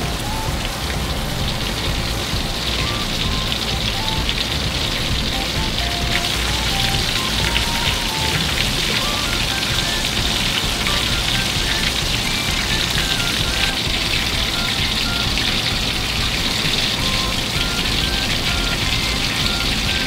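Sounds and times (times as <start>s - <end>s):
background music: 0.0s - 20.0s
chicken deep-frying in oil: 0.0s - 20.0s.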